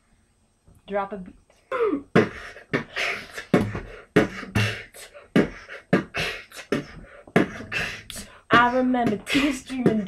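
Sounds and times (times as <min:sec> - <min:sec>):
beatboxing: 0:01.7 - 0:10.0.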